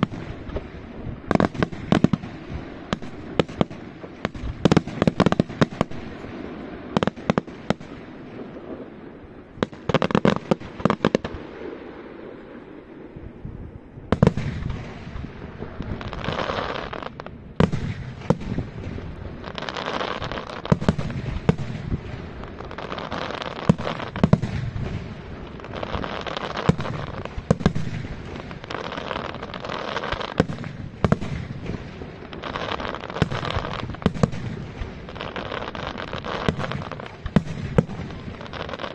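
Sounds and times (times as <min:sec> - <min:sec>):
firework hiss: 0:00.0 - 0:38.9.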